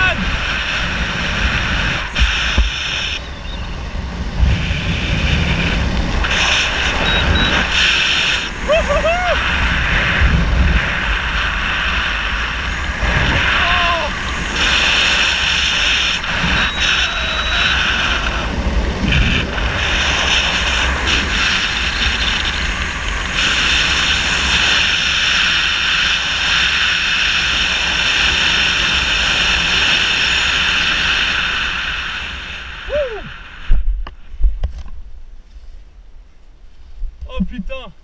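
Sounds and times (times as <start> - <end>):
wind rushing across microphone: 0.0 - 38.0.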